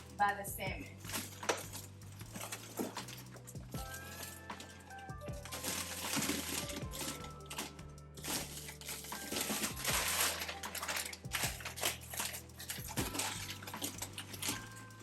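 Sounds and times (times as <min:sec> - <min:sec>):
plastic packages crinkling: 0:00.9 - 0:15.0.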